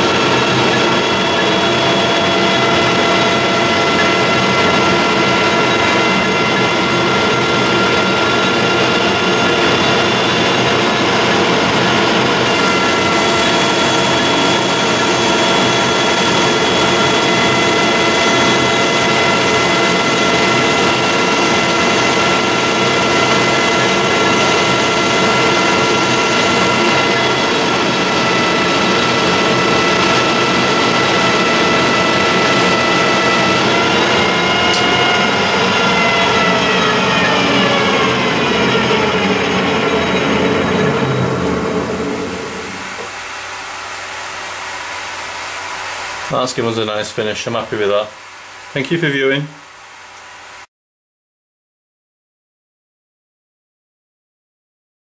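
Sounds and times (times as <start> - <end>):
tool cutting spinning metal bar: 0.0 - 46.3
lathe gearbox whine: 0.0 - 48.9.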